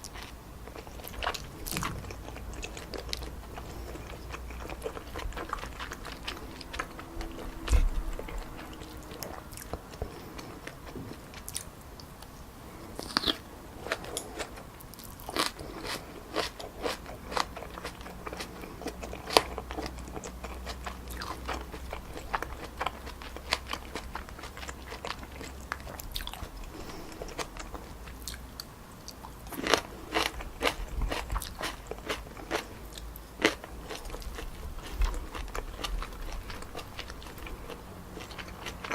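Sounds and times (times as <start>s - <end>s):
chewing: 0.0s - 38.9s.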